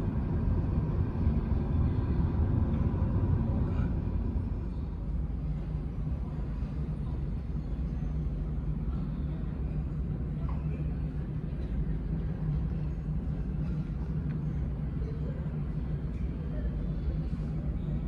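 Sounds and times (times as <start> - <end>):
distant jet engines rumbling: 0.0 - 18.0.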